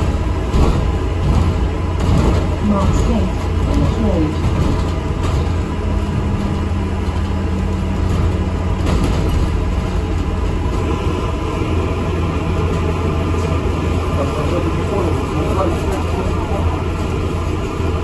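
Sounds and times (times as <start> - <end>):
bus cabin rumble: 0.0 - 18.0
bus engine hum: 0.0 - 18.0.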